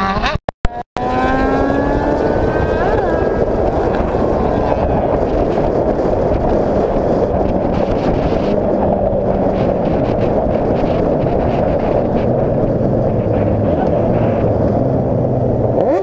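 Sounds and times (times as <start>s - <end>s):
motorcycle engine drone: 0.0s - 16.0s
wind rushing over microphone: 0.0s - 16.0s.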